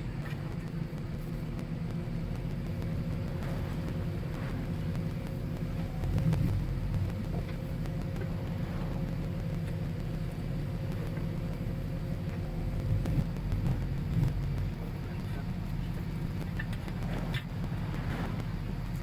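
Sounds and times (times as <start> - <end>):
faint steady hum: 0.0 - 19.0
vehicle engine rumbling: 0.0 - 19.0.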